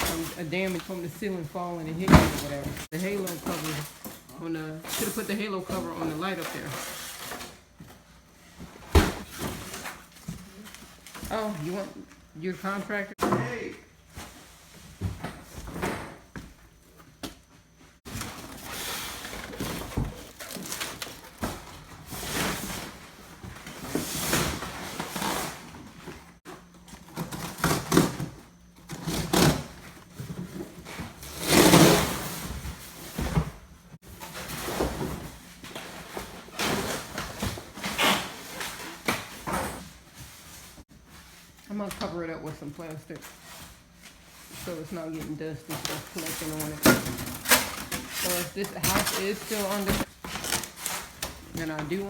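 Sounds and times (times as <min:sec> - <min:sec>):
plastic and cardboard rustling: 0:00.0 - 0:13.2, 0:17.6 - 0:52.0.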